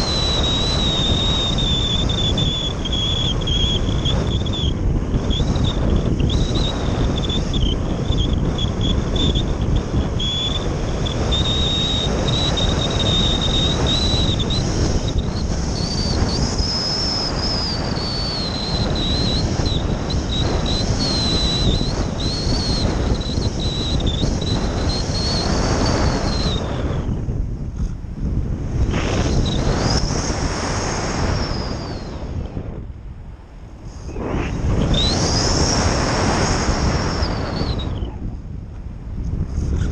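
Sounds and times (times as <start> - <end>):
thin high whistle: 0.0 - 27.2, 28.9 - 32.6, 33.9 - 38.4
wind rushing over microphone: 0.0 - 39.9.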